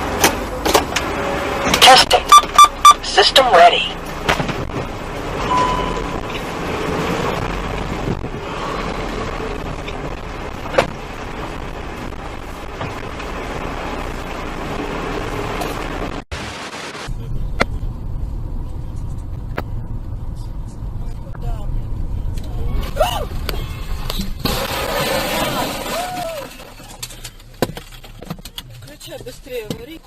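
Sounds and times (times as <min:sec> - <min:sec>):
low engine rumble: 0:00.0 - 0:30.0
road and engine noise: 0:00.0 - 0:30.0.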